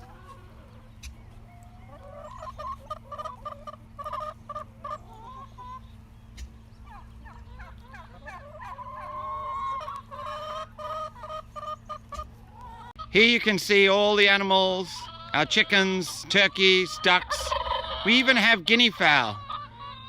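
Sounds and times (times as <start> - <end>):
chickens and turkeys clucking: 0.0 - 20.0.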